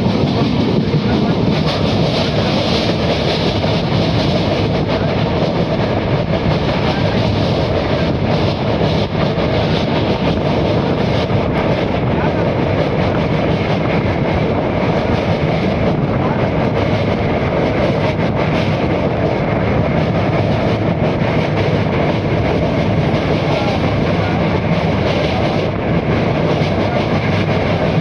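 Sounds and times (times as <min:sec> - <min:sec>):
rhythmic clicking of rails: 0:00.0 - 0:28.0
train wheels rumbling on rails: 0:00.0 - 0:28.0.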